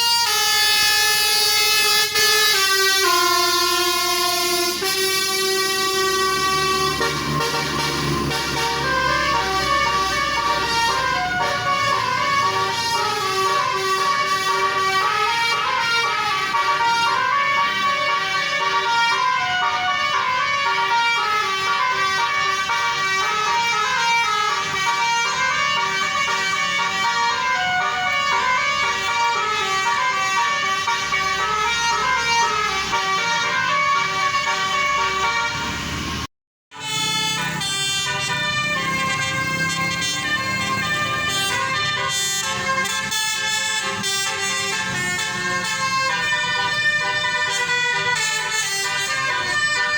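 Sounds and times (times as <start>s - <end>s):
bus musical horns playing tune: 0.0s - 49.9s.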